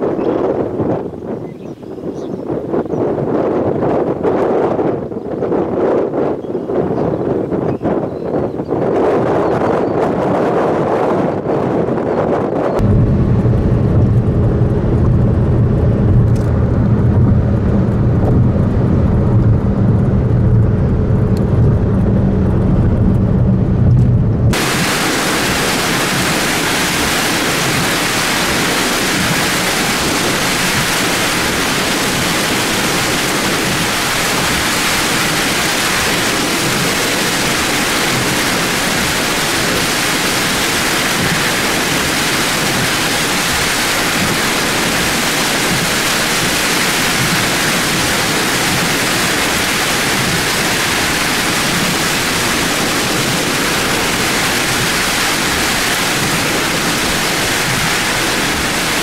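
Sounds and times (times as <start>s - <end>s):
torrential rain and wind: 0.0s - 59.0s.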